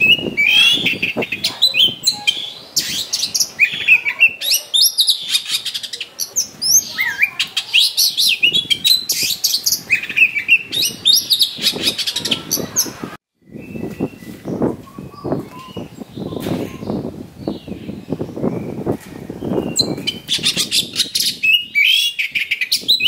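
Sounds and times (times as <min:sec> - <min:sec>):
bird singing whistled trills: 0:00.0 - 0:12.4, 0:13.3 - 0:18.8, 0:19.4 - 0:23.0.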